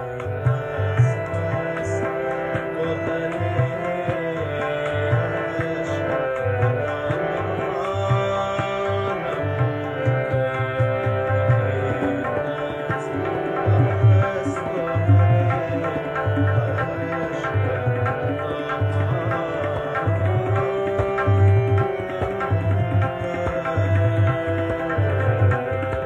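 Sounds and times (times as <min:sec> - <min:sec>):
harmonium chords: 0:00.0 - 0:26.0
tabla drumming: 0:00.0 - 0:26.0.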